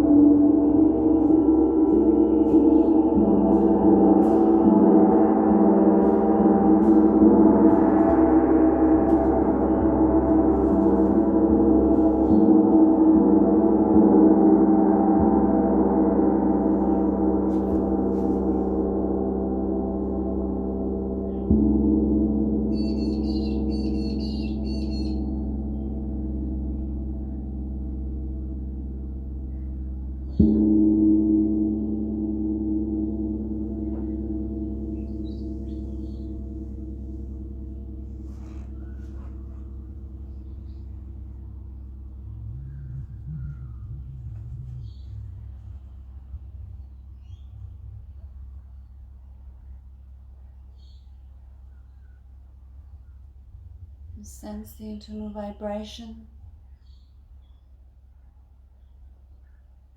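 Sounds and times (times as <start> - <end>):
gong ringing: 0.0 - 48.8.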